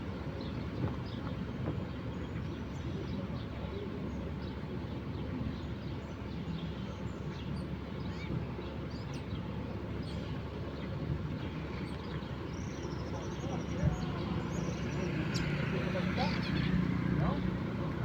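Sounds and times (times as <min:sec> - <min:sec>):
birds chirping: 0:00.2 - 0:18.0.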